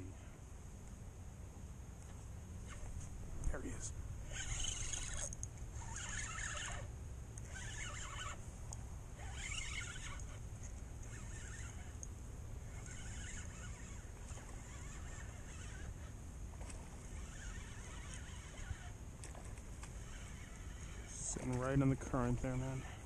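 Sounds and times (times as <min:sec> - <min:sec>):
fishing reel rasping whirr: 0:00.0 - 0:00.5, 0:02.0 - 0:23.0.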